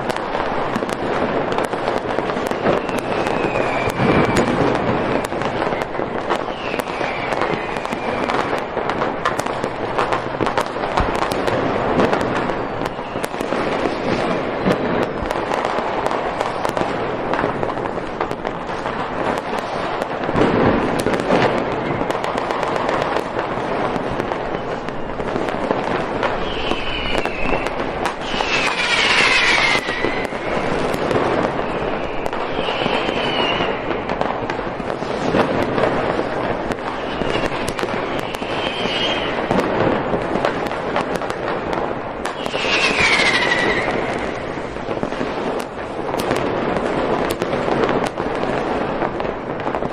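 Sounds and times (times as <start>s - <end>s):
fireworks crackling bangs: 0.0s - 49.9s
fireworks whistles: 0.0s - 49.9s.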